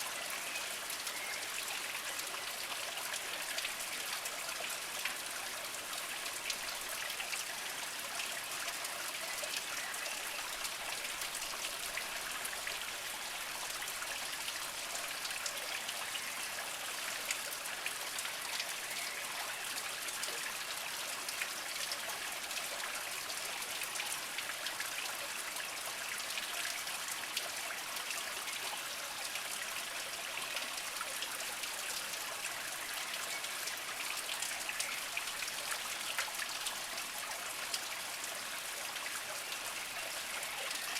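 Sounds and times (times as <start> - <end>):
spring water trickling over rocks: 0.0 - 40.9.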